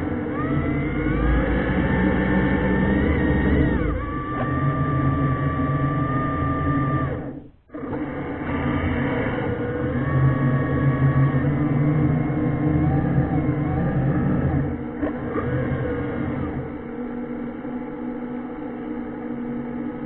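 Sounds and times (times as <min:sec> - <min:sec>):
low hum: 0:00.0 - 0:20.0
thruster motors whining: 0:00.0 - 0:20.0.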